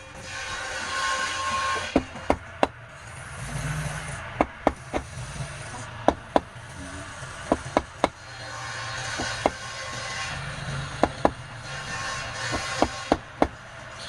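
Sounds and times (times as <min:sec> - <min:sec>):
sharp wooden knocks: 0:00.9 - 0:02.9, 0:04.3 - 0:13.6.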